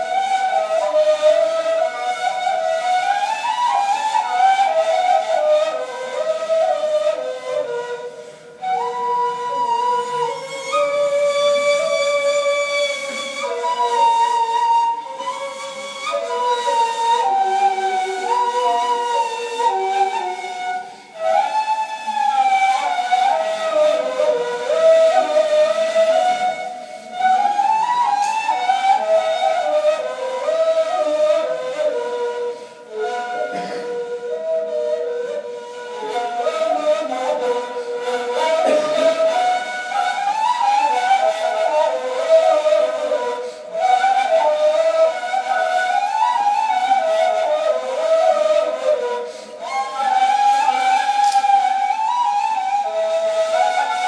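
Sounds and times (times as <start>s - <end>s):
two reed flutes playing: 0.0s - 54.0s.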